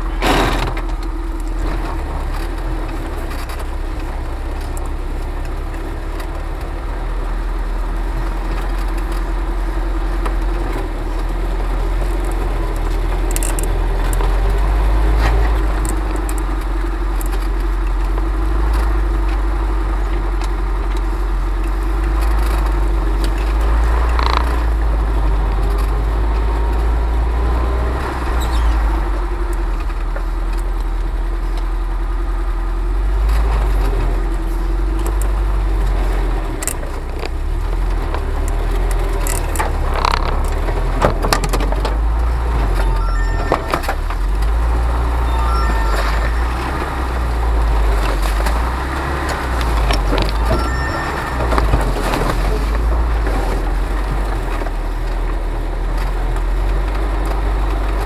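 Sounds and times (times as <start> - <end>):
branches scraping vehicle body: 0.0 - 6.4, 8.2 - 30.7, 33.2 - 58.0
vehicle engine rumbling: 0.0 - 58.0.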